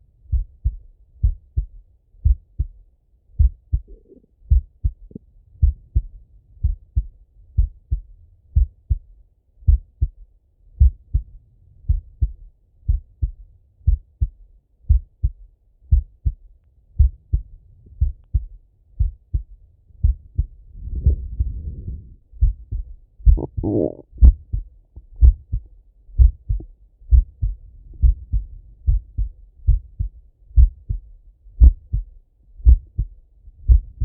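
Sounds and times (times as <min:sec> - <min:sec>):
heartbeat through stethoscope: 0:00.2 - 0:10.2, 0:10.8 - 0:34.0.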